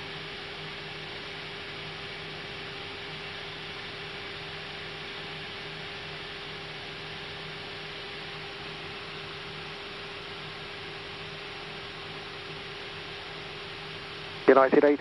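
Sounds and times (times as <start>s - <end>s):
aircraft cockpit hiss and hum: 0.0s - 15.0s.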